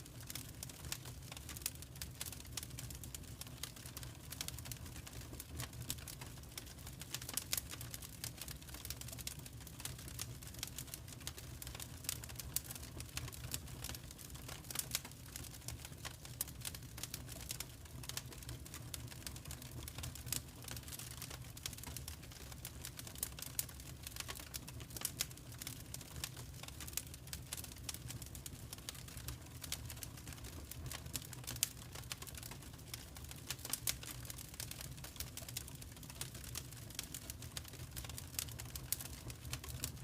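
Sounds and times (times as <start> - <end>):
low fire rumble: 0.0 - 40.0
wood fire crackling: 0.0 - 40.0.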